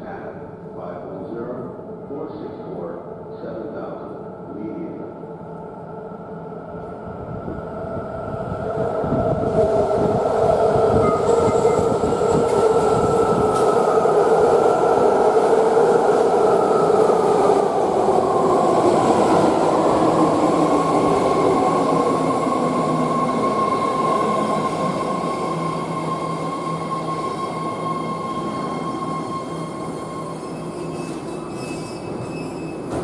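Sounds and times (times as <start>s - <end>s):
train rumbling: 6.5s - 33.0s.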